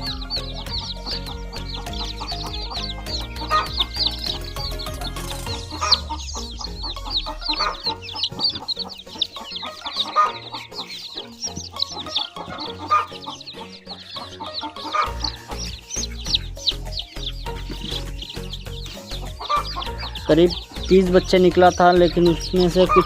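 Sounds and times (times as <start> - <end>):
chicks peeping: 0.0 - 23.0
hen clucking: 0.0 - 23.0.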